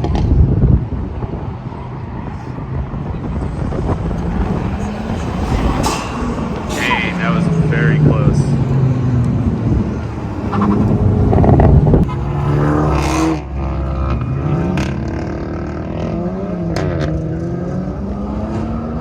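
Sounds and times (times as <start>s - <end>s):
wind noise: 0.0s - 16.3s
racing car engines revving: 0.0s - 19.0s.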